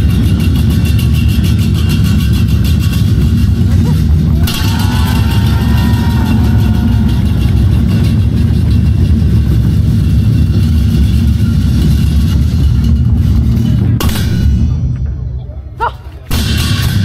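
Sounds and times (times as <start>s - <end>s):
cymbals clashing: 0.0s - 15.2s, 16.3s - 17.0s
barrel drums rolling: 0.0s - 17.0s.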